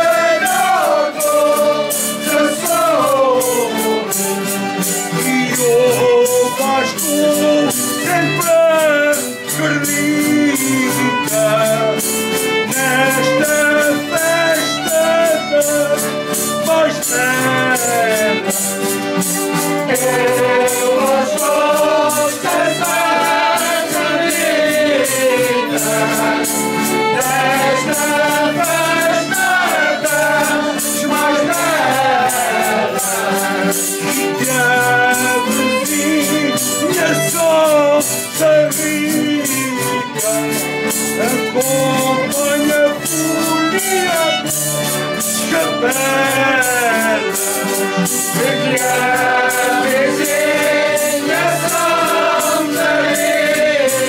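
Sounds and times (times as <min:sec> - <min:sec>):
group singing folk song: 0:00.0 - 0:54.0
instrumental accompaniment: 0:00.0 - 0:54.0
steady percussive beat: 0:00.0 - 0:54.0.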